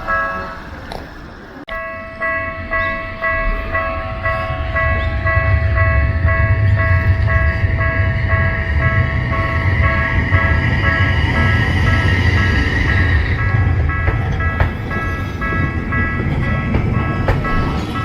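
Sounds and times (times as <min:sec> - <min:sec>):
level-crossing warning bell: 0:00.0 - 0:18.0
low rumble: 0:02.5 - 0:18.0.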